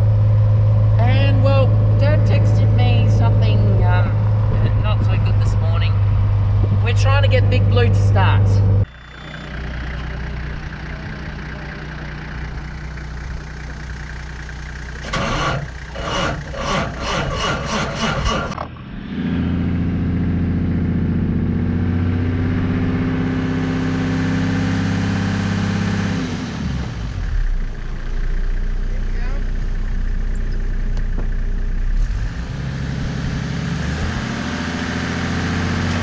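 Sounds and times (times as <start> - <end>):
starter cranking diesel engine: 0.0 - 18.9, 25.6 - 36.0
tractor diesel engine running: 0.0 - 36.0.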